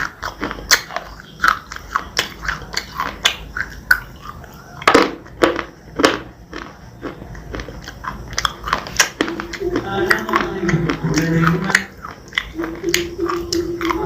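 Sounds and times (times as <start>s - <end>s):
crunchy bar being chewed: 0.0s - 14.0s.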